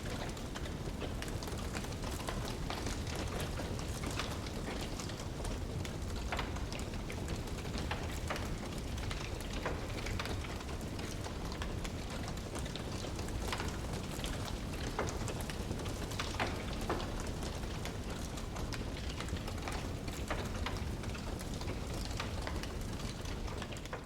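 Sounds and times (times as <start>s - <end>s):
wood fire popping and snapping: 0.0s - 24.0s.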